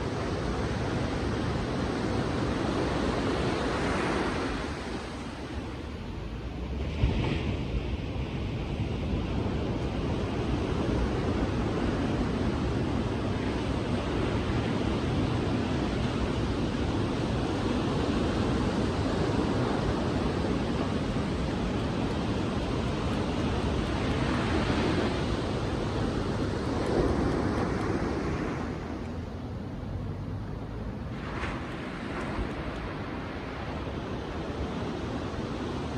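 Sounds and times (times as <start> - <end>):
waves breaking on a beach: 0.0 - 35.9.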